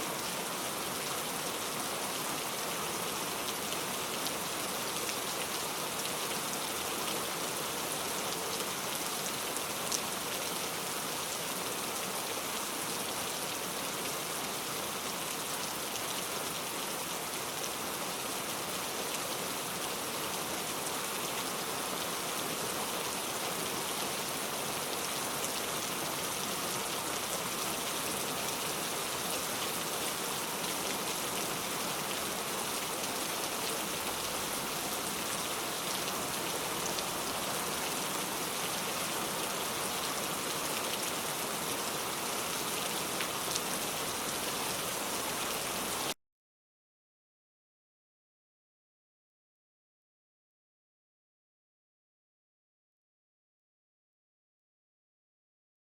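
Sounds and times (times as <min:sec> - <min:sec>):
heavy rain falling: 0:00.1 - 0:46.2.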